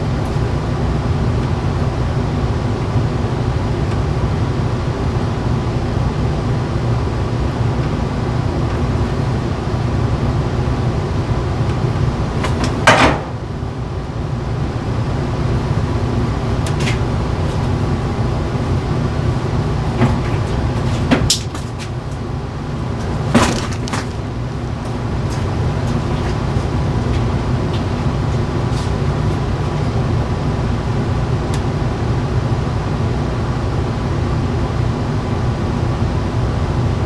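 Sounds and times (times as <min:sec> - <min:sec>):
low rumbling noise: 0:00.0 - 0:37.0.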